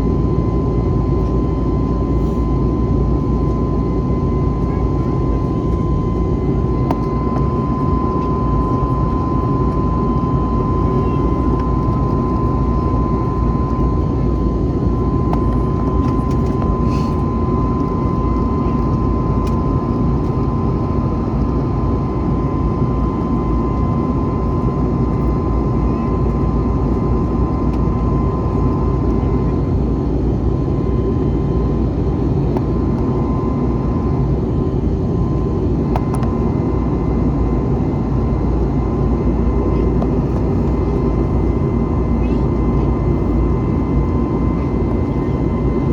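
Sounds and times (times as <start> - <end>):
jet engine rumble in cabin: 0.0 - 45.9.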